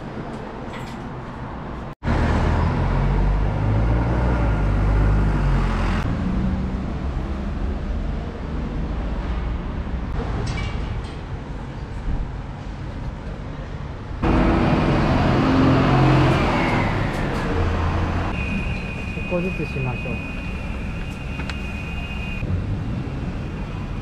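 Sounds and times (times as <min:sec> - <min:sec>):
traffic background: 0:00.0 - 0:24.0
vehicle engine rumbling: 0:00.0 - 0:24.0.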